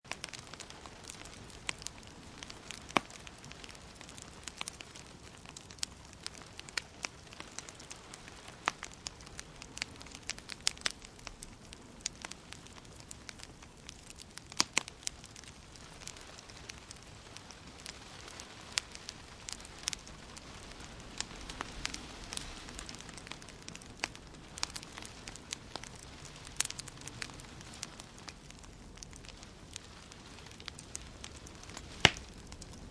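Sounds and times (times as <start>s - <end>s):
soft steady hiss: 0.0s - 32.9s
wood fire crackling: 0.0s - 32.9s.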